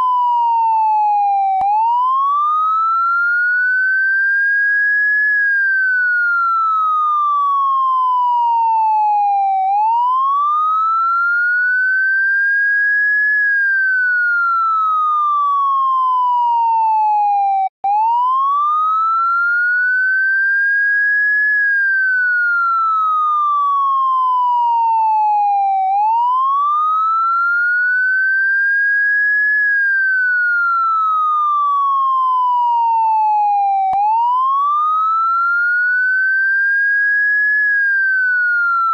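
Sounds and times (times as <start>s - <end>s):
police car siren wailing: 0.0s - 38.9s.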